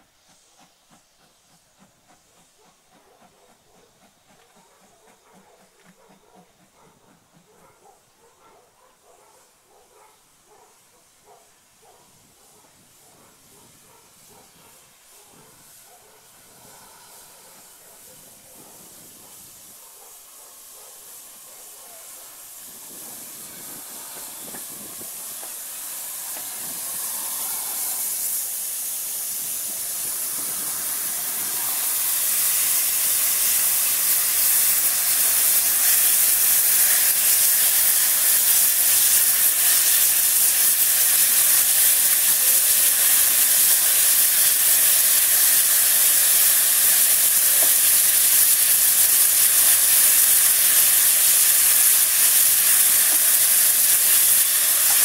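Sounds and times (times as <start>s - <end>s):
steam locomotive hissing steam: 0.0s - 55.0s.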